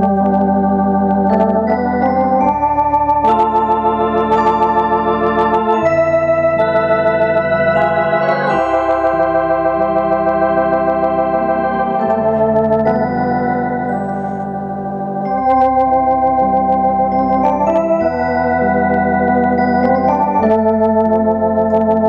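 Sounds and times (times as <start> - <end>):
organ playing chords: 0.0 - 22.0
sustained bass line: 0.0 - 22.0.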